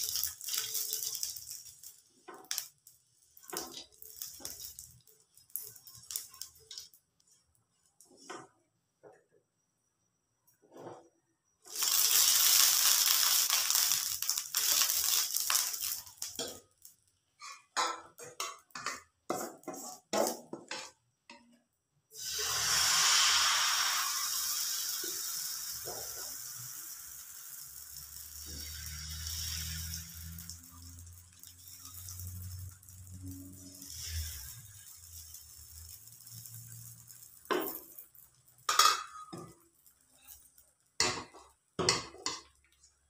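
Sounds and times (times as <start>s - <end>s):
batter sizzling in a pan: 0.0s - 8.3s, 11.6s - 20.6s, 22.1s - 43.0s.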